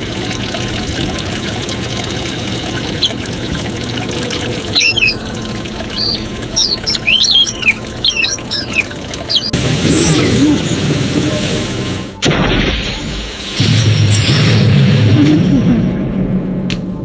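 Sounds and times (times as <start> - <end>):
birds chirping and squawking: 0.0 - 14.7.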